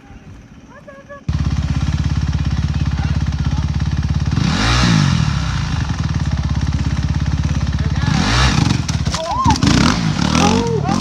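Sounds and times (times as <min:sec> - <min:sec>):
motorcycle engine revving: 0:01.3 - 0:11.0.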